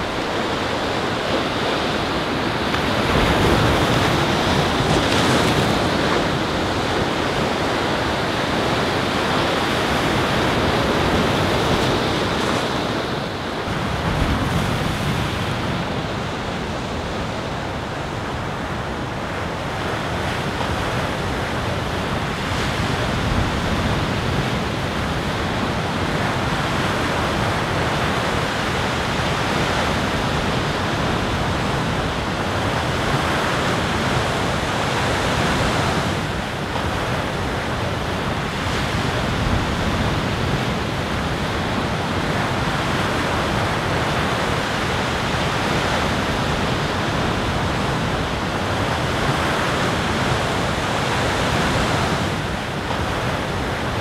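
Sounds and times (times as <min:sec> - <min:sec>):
ocean waves: 0:00.0 - 0:54.0
wind: 0:00.0 - 0:54.0.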